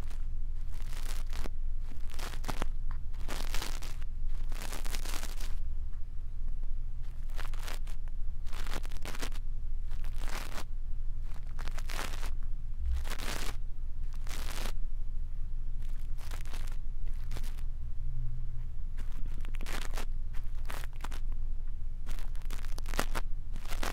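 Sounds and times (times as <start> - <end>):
brush scratching microphone: 0.0 - 5.6, 7.0 - 14.8, 15.8 - 17.6, 18.6 - 21.3, 22.0 - 23.9
steady low hum: 0.0 - 23.9.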